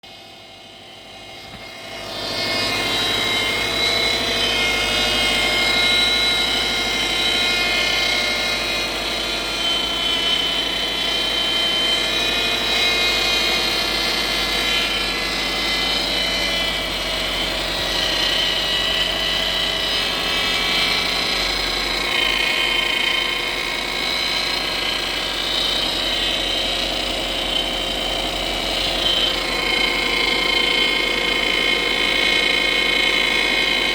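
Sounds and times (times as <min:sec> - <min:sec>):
power steering pump whining: 0:00.1 - 0:33.9.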